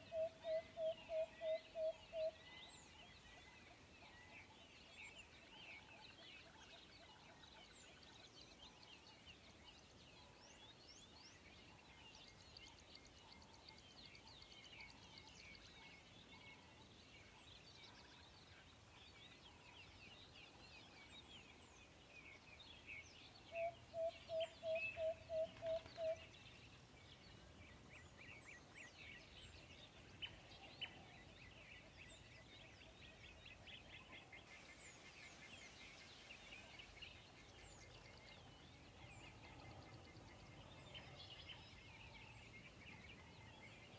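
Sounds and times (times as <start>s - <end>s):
short evenly spaced bird calls: 0.0s - 43.9s.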